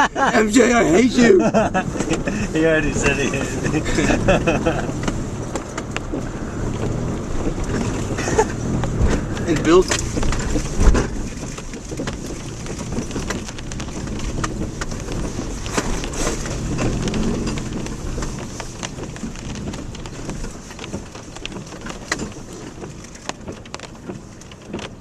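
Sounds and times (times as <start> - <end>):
tyres crunching on gravel: 0.0 - 25.0.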